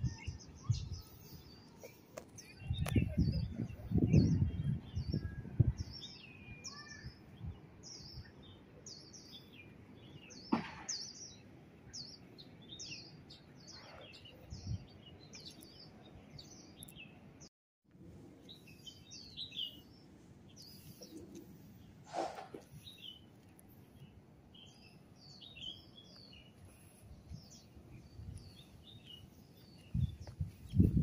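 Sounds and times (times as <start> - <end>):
faint outdoor background noise: 0.0 - 31.0.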